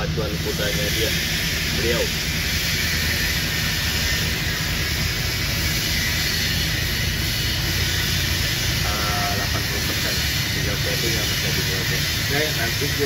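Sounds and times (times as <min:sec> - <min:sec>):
even hiss: 0:00.0 - 0:13.0
low hum: 0:00.0 - 0:13.0.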